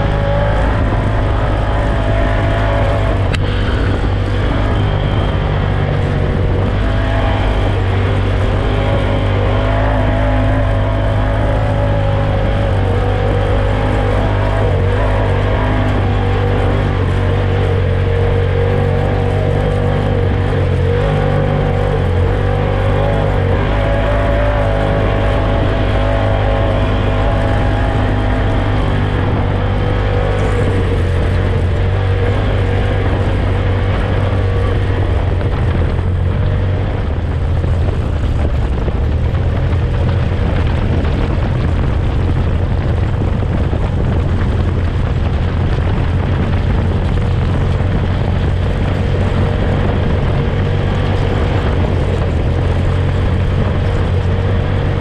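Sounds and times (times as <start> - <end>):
utility vehicle engine drone: 0.0 - 55.0.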